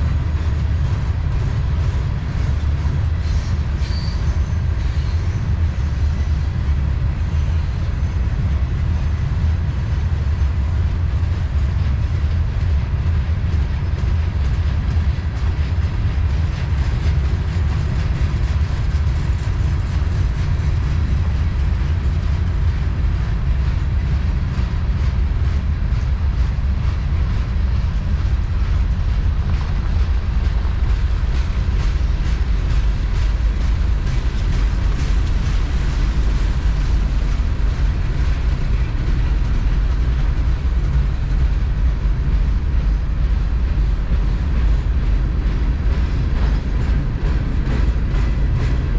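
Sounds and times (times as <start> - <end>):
freight train rumbling past: 0.0 - 48.9
train wheels clicking on rails: 0.0 - 48.9.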